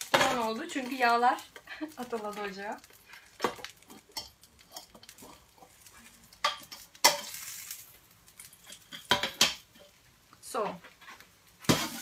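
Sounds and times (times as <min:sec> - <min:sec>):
pastry sizzling on hot plate: 0:00.0 - 0:12.0.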